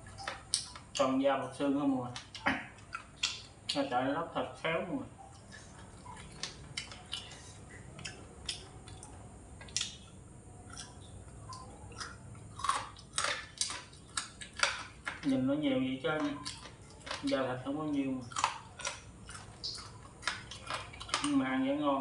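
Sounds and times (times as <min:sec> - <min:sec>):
chewing with mouth smacks: 0:00.0 - 0:03.9, 0:05.2 - 0:15.4, 0:16.0 - 0:21.7.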